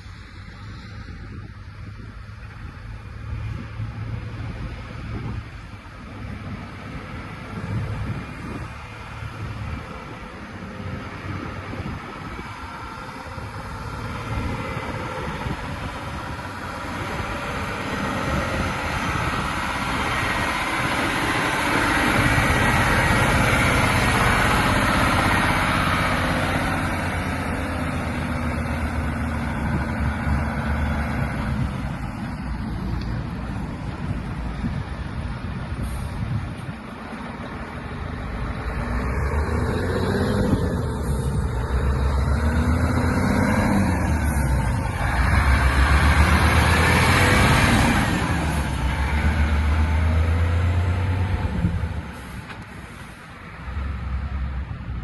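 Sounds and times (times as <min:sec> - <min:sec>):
truck diesel engine running: 0:00.4 - 0:55.0.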